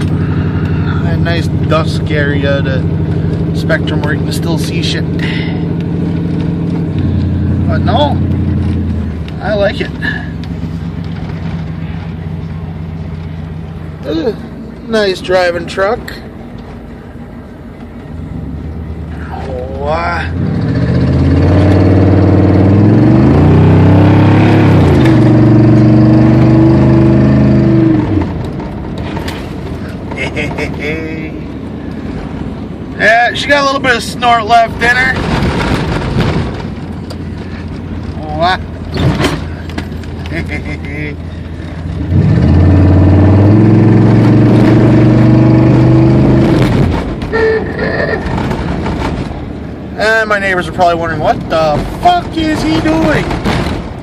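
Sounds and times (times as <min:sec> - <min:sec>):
truck engine accelerating: 0:00.0 - 0:54.0.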